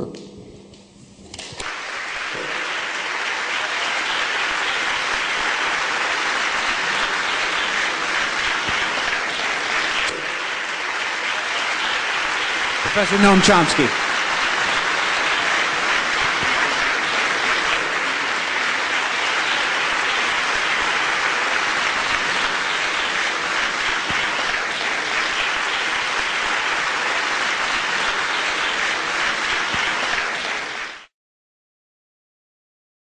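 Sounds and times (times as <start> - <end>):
audience applauding: 1.6 - 31.1.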